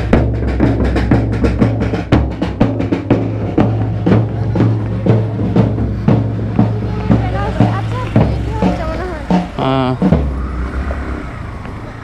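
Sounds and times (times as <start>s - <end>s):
drum kit beat: 0.0s - 10.6s
sustained bass line: 0.0s - 10.7s.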